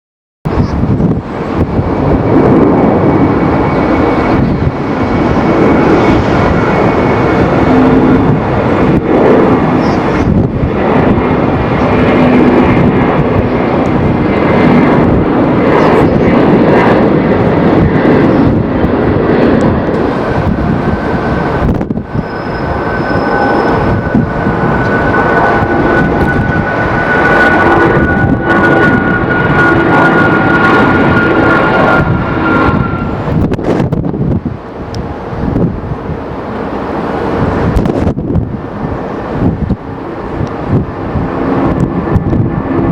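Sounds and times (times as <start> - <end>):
wind buffeting microphone: 0.4 - 42.9
jet engines: 0.5 - 42.9.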